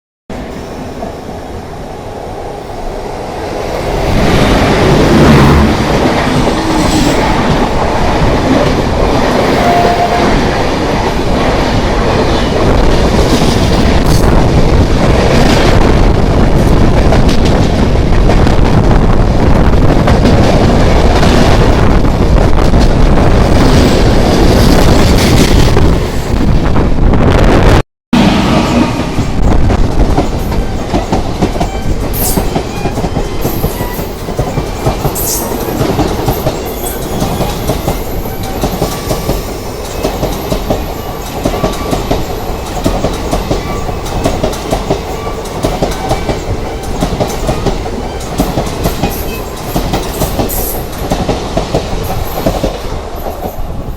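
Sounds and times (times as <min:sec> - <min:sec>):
train rushing past: 0:00.3 - 0:53.9.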